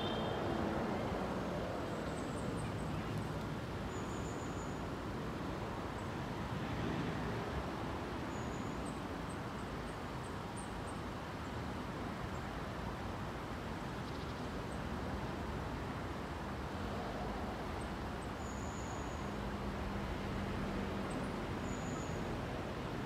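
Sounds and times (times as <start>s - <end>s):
distant road traffic hum: 0.0s - 23.0s.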